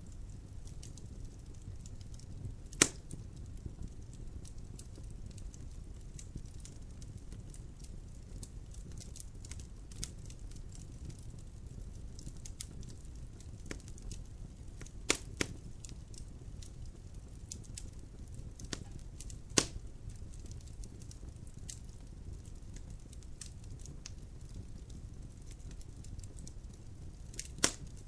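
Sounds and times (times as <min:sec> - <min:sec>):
fire flames rumbling: 0:00.0 - 0:28.0
wood fire crackling: 0:00.0 - 0:28.0
loud fire pops: 0:00.4 - 0:28.0.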